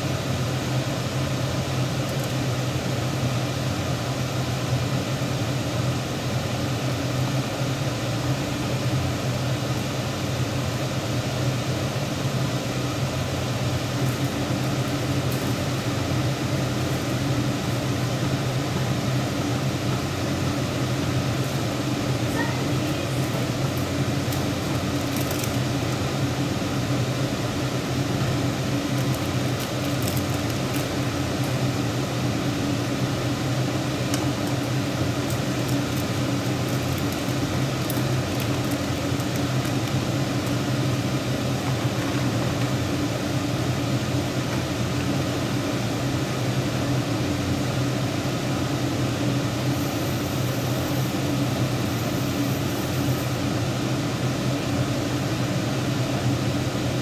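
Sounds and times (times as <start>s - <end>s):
kitchen appliance humming: 8.2s - 54.8s.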